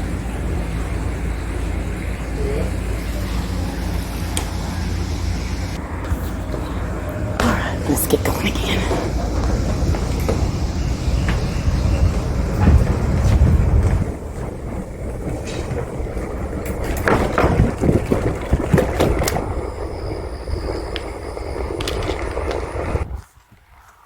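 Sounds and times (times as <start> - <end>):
bike rattling and knocking: 0.0 - 23.2
wind buffeting microphone: 0.0 - 23.9
bicycle tyres rumbling: 0.0 - 24.0.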